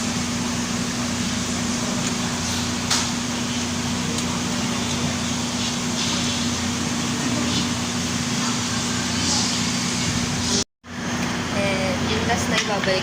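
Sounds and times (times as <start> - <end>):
fan hum and hiss: 0.0 - 13.0.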